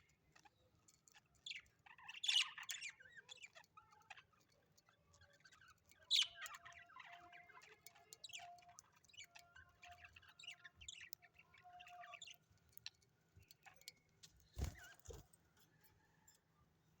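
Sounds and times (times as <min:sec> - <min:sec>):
small birds chirping: 0:00.0 - 0:16.4.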